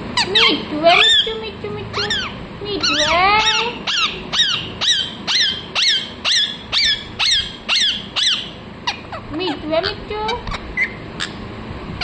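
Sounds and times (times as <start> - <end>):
parakeet screeching calls: 0.2 - 9.6, 10.3 - 11.4.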